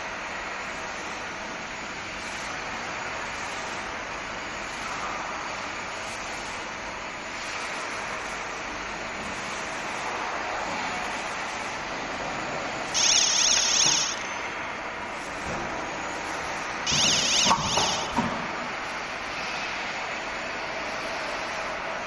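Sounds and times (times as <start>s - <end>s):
industrial machinery running: 0.0s - 22.0s.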